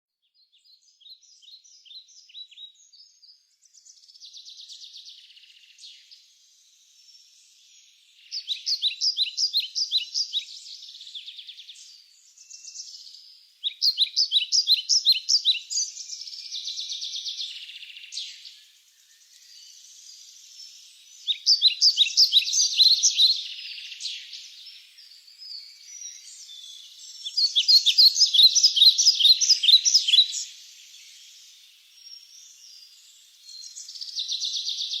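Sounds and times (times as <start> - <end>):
songbird chirping: 0.2 - 35.0.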